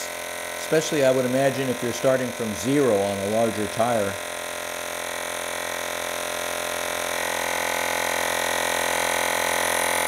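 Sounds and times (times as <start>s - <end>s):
small air compressor humming: 0.0s - 10.0s.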